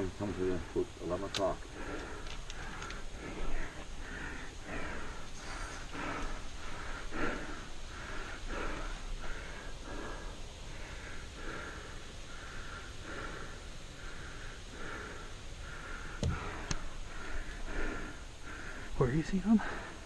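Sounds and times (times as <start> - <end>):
quick even breathing: 1.7 - 20.0.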